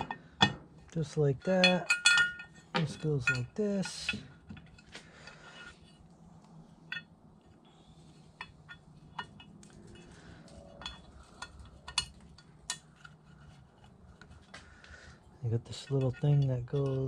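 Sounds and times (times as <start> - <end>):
light clicks and metal clinks: 0.0 - 17.0
low steady hum: 0.0 - 17.0.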